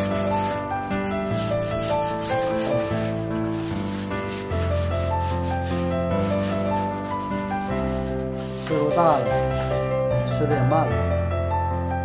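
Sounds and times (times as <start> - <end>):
scratchy rubbing sound: 0.0 - 9.9
keyboard music with bass line: 0.0 - 12.0.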